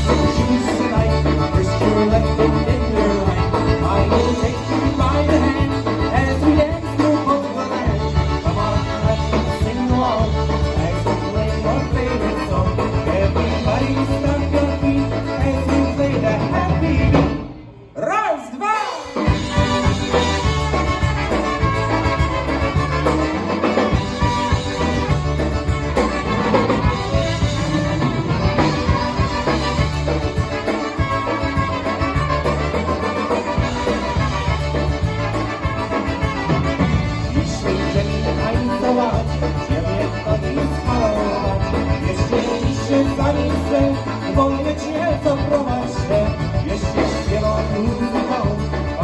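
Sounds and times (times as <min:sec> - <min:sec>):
bouncing bass beat: 0:00.0 - 0:17.2, 0:19.3 - 0:49.0
polka band playing: 0:00.0 - 0:17.7, 0:18.6 - 0:49.0
accordion melody: 0:00.0 - 0:17.8, 0:18.8 - 0:49.0.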